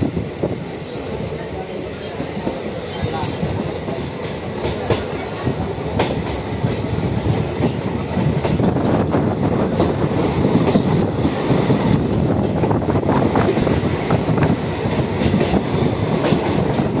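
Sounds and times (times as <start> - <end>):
train wheels rumbling on track: 0.0 - 17.0
wheels clacking over rail joints: 2.4 - 17.0.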